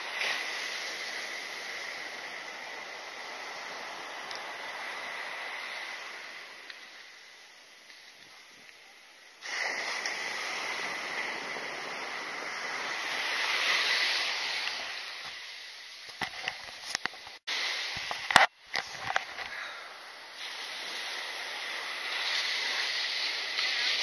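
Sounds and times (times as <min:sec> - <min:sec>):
ocean surf breaking: 0:00.0 - 0:08.7, 0:09.3 - 0:24.0.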